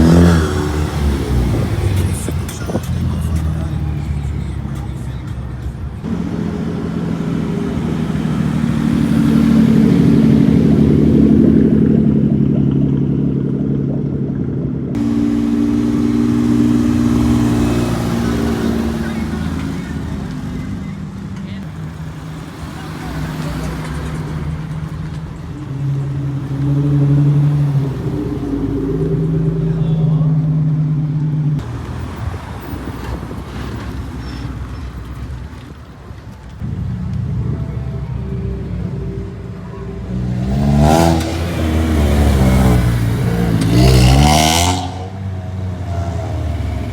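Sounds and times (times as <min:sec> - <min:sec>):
car engines running loudly: 0:00.0 - 0:46.9
rough exhaust rumble: 0:00.0 - 0:46.9.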